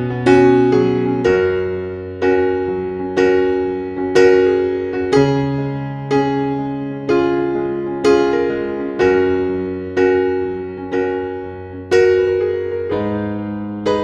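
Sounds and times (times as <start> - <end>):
slow electric piano chords: 0.0 - 14.0.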